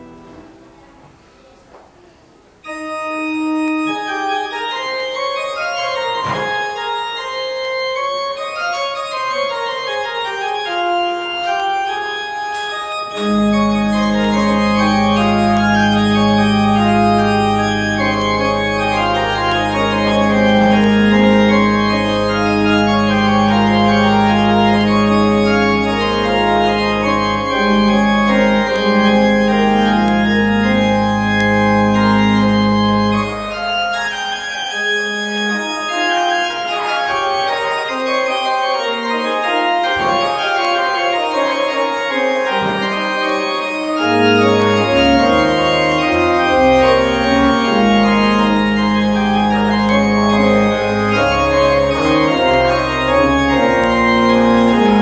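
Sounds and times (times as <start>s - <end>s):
church organ playing: 0.0s - 1.5s, 2.6s - 55.0s.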